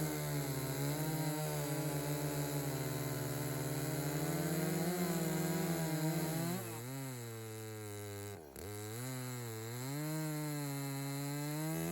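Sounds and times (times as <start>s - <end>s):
chainsaw cutting a log: 0.0s - 11.9s.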